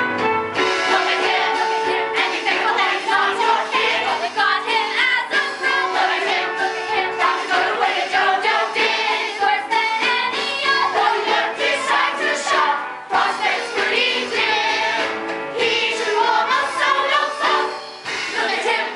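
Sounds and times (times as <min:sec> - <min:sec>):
instrumental accompaniment: 0:00.0 - 0:18.9.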